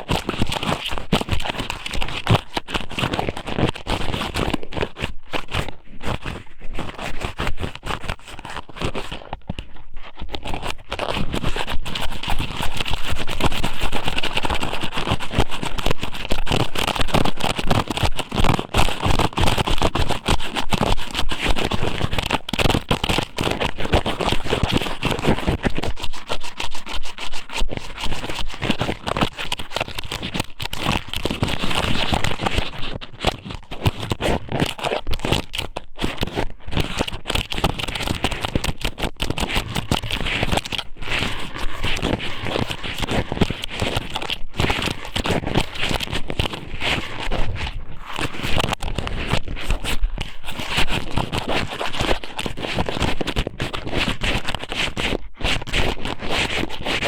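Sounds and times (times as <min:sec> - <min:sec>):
close-up crackling and scraping: 0:00.0 - 0:57.0.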